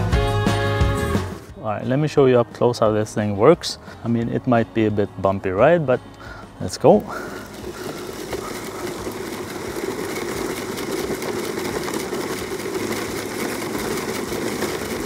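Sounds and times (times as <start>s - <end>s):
lawn sweeper whirring rattle: 1.0s - 15.0s.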